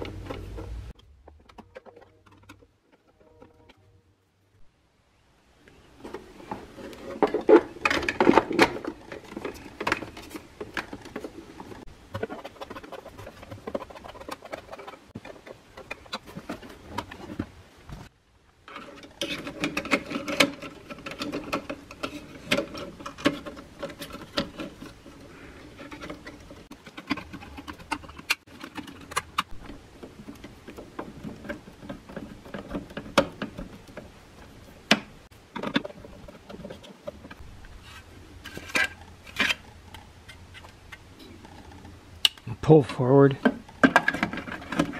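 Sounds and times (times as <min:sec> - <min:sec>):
plastic parts clicking and knocking: 0:00.0 - 0:03.9, 0:06.0 - 0:37.4, 0:38.4 - 0:44.9.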